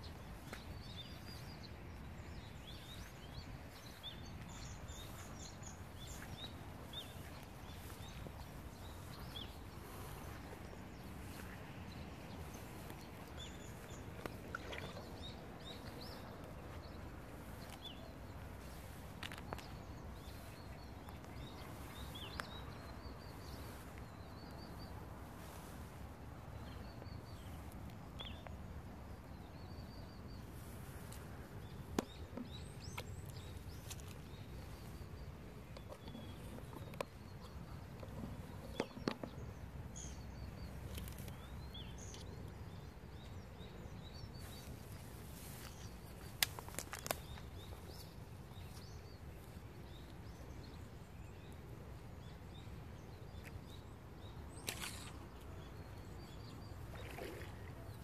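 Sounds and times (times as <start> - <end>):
small birds chirping: 0.0 - 58.0
steady low background noise: 0.0 - 58.0.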